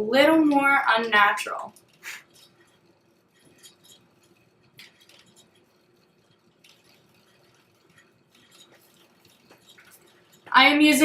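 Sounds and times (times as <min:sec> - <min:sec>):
makeup brush scratchy brushing: 0:00.2 - 0:11.0.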